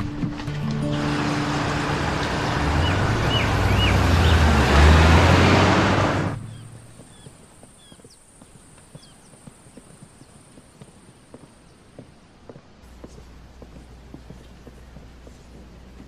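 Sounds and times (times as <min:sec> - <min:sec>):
vehicle engine and road noise: 0:00.0 - 0:10.4, 0:11.2 - 0:16.0.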